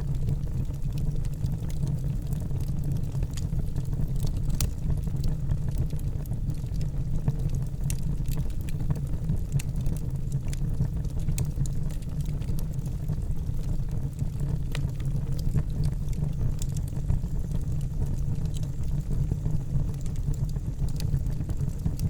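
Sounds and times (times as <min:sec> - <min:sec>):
fire crackles and pops: 0:00.0 - 0:22.0
fire rumbling in fireplace: 0:00.0 - 0:22.0.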